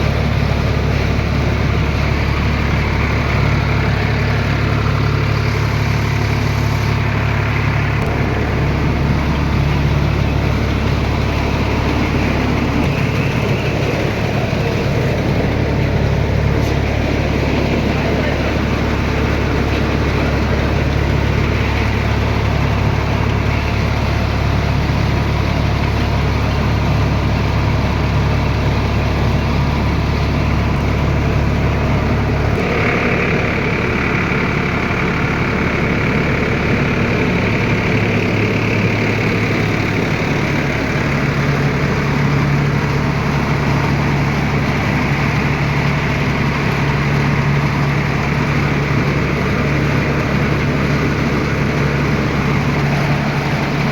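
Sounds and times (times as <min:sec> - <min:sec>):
rice mill whine: 0:00.0 - 0:53.9
tractor engine running: 0:00.0 - 0:53.9.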